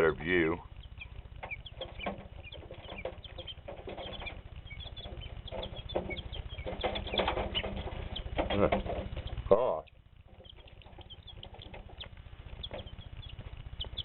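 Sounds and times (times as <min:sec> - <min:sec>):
chicks peeping: 0:00.0 - 0:14.0
rustles and flutters: 0:00.7 - 0:14.0.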